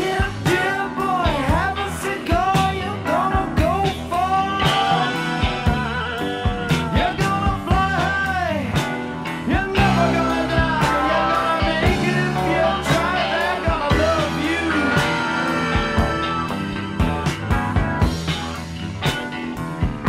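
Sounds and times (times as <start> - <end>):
rock music: 0.0 - 20.0.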